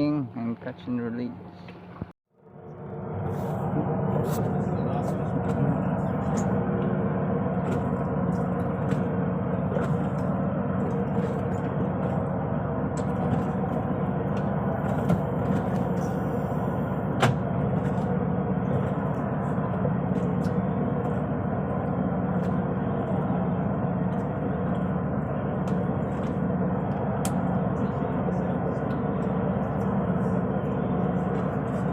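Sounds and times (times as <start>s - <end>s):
boat engine droning: 0.0s - 31.9s.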